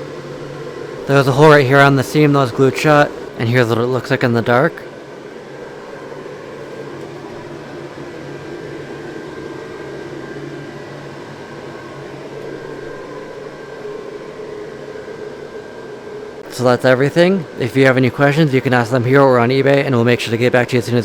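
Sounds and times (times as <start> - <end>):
electric blower fan humming: 0.0 - 21.0
faint whine: 0.0 - 21.0.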